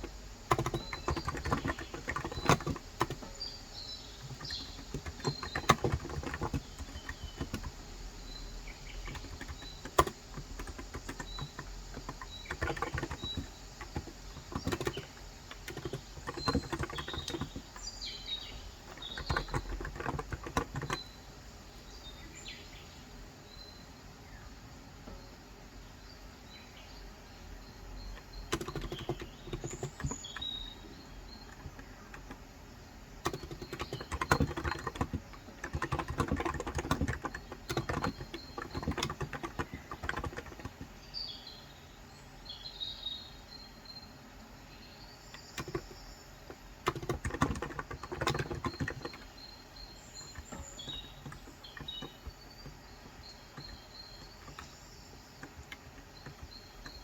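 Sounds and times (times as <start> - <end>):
typing on keyboard: 0.0 - 21.2, 28.0 - 41.0, 45.3 - 57.0
birds chirping: 0.0 - 57.0.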